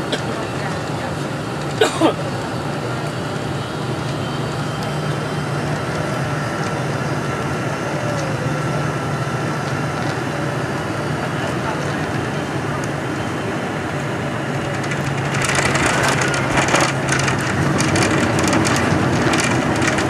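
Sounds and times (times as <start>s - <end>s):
jet engine and airflow roar: 0.0s - 20.0s.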